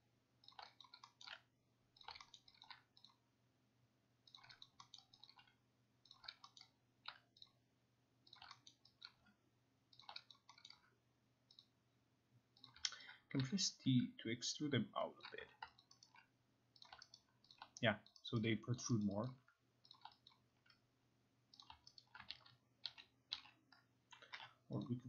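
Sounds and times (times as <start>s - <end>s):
mouse and keyboard clicking: 0.4s - 3.2s, 4.2s - 7.6s, 8.2s - 10.9s, 11.5s - 11.7s, 12.5s - 13.8s, 14.5s - 20.8s, 21.5s - 25.0s.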